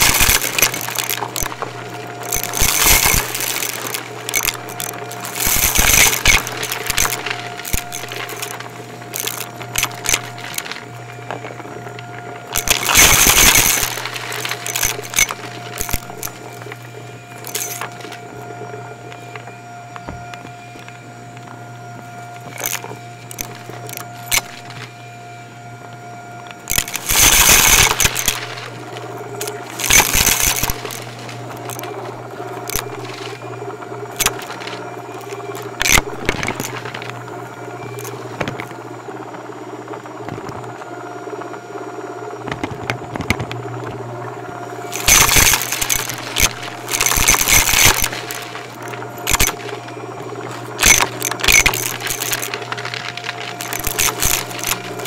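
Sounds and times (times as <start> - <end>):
upright vacuum motor hum: 0.0 - 55.0
vacuum crunching up debris: 0.0 - 55.0.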